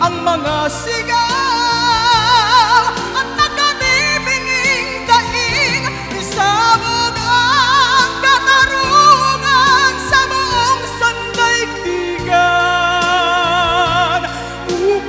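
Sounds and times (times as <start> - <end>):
sustained musical accompaniment: 0.0 - 15.0
woman singing a slow ballad: 0.0 - 15.0.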